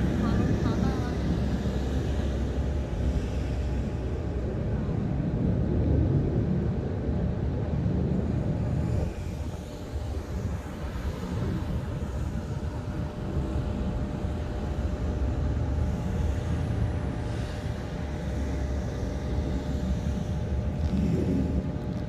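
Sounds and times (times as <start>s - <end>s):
low fluttering outdoor rumble: 0.0s - 22.0s.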